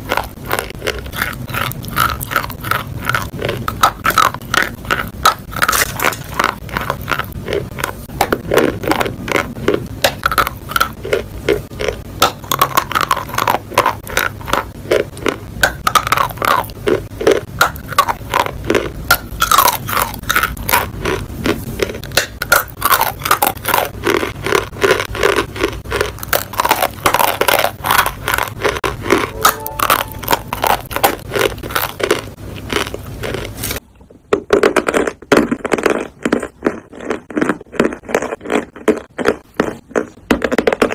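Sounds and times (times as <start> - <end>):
chalk being chewed: 0.0 - 33.8, 34.6 - 40.9.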